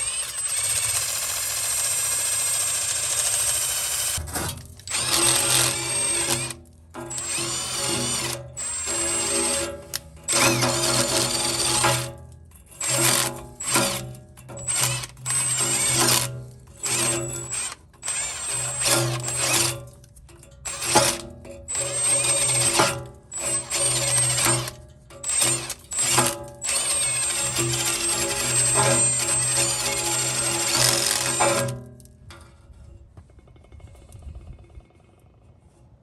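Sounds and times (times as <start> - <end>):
power drill whining in bursts: 0.0 - 12.2, 12.8 - 19.9, 20.6 - 31.9.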